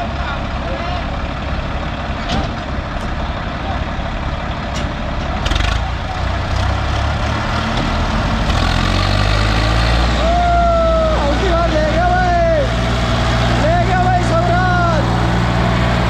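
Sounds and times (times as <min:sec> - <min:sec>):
tractor diesel engines labouring: 0:00.0 - 0:16.0.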